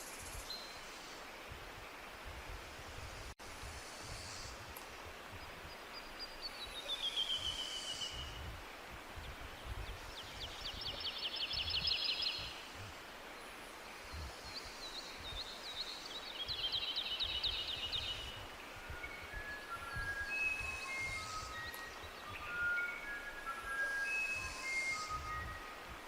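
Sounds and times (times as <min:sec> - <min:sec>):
songbirds singing: 0:00.0 - 0:02.6, 0:04.1 - 0:26.0
steady hiss: 0:00.0 - 0:26.0.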